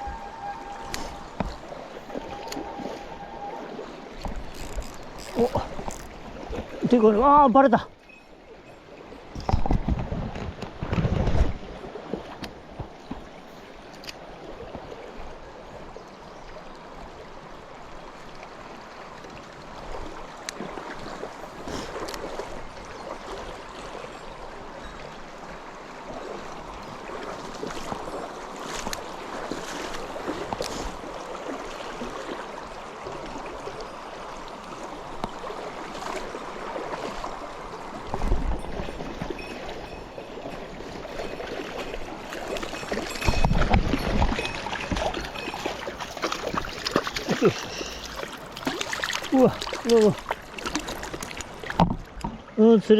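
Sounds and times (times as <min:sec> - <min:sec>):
mountain stream flowing: 0:00.0 - 0:52.9.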